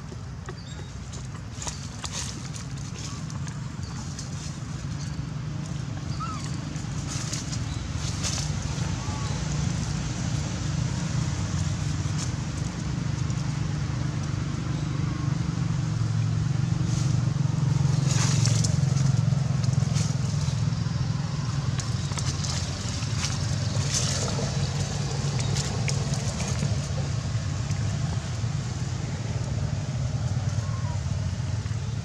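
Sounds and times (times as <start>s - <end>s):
dry leaves and branches crackling: 0.0s - 32.0s.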